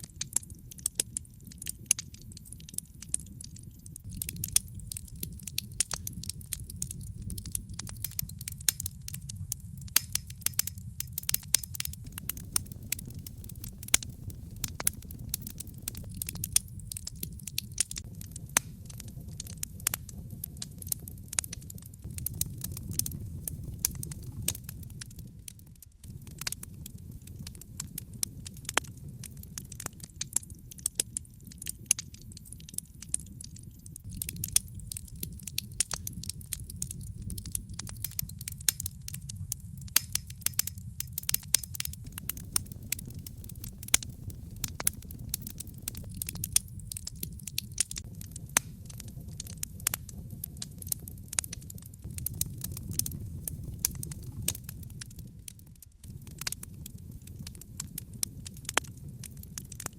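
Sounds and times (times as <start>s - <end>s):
logs crackling and popping: 0.0s - 59.9s
low rumble of flames: 0.0s - 59.9s.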